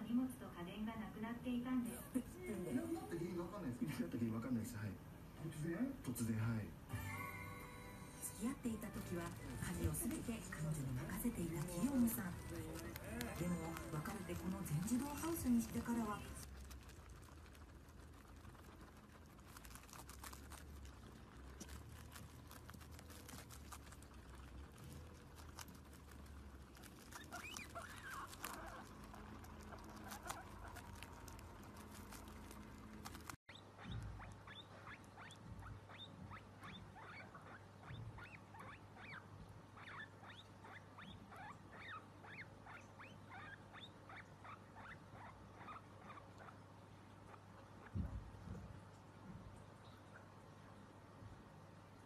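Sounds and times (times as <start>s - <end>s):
guinea pigs chewing broccoli: 1.8s - 52.0s
guinea pig squeaking: 6.0s - 48.7s.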